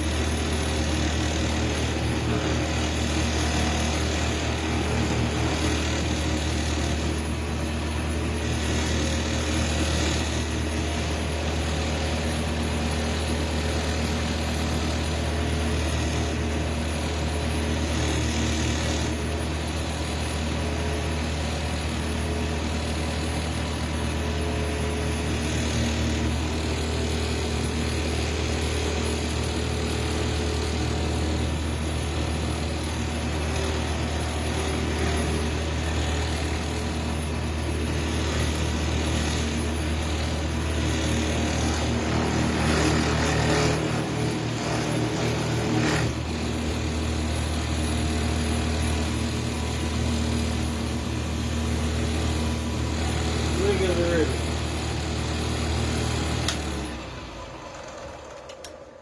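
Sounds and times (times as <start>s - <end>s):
tool cutting spinning wood: 0.0s - 59.0s
wood lathe motor hum: 0.0s - 59.0s.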